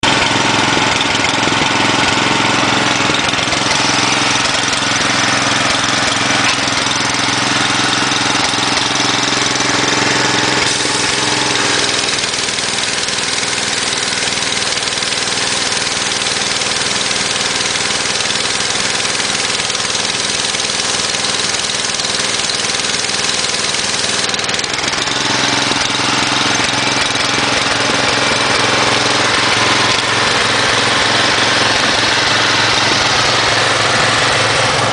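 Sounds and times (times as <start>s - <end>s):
pressure washer engine running: 0.0s - 34.9s.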